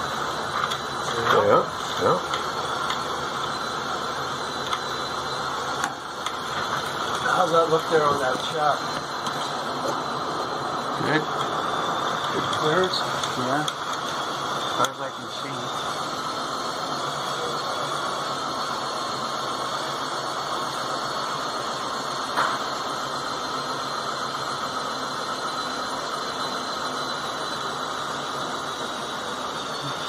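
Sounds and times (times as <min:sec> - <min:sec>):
motor whirring gear drone: 0:00.0 - 0:30.0.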